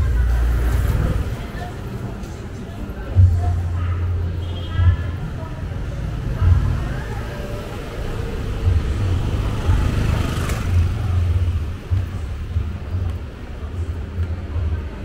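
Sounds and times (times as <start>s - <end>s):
cars passing: 0.0s - 15.0s.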